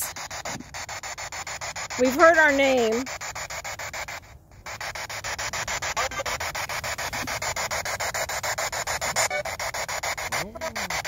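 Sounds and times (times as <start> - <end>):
chopped radio static: 0.0 - 11.0.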